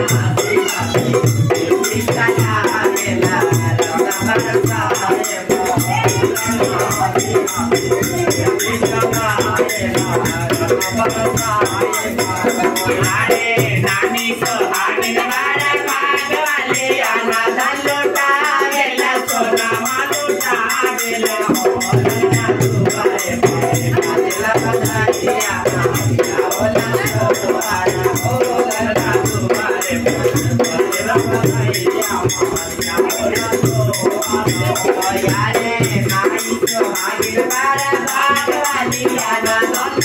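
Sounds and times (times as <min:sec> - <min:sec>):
drum beat: 0:00.0 - 0:40.0
rattling hand percussion: 0:00.0 - 0:40.0
women singing folk song: 0:00.0 - 0:40.0.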